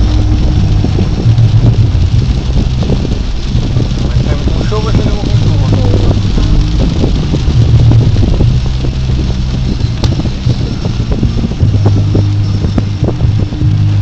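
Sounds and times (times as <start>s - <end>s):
car engine and road hum: 0.0s - 14.0s
rain pattering on car: 0.0s - 14.0s.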